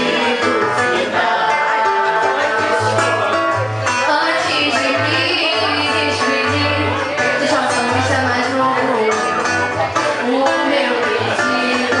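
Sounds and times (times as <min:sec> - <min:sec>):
samba on acoustic guitar: 0:00.0 - 0:12.0.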